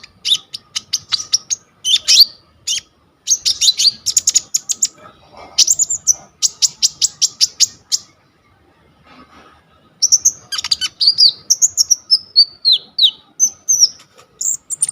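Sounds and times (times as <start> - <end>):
songbird chirps and trills: 0.0 - 14.9.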